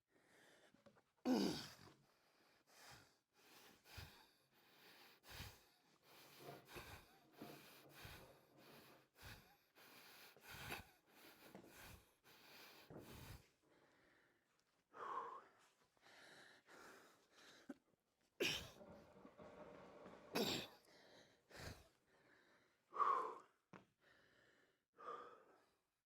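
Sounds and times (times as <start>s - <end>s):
man breathing heavily: 0.2s - 17.8s, 18.4s - 25.9s.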